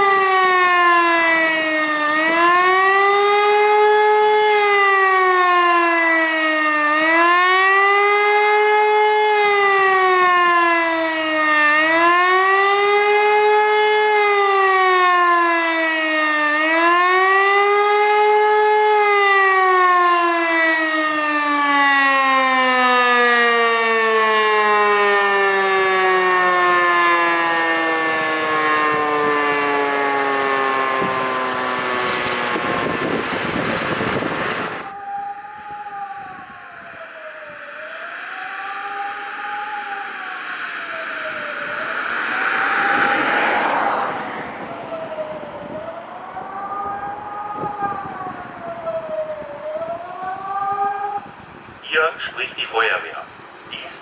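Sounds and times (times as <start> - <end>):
civil defence siren howling: 0.0 - 53.7.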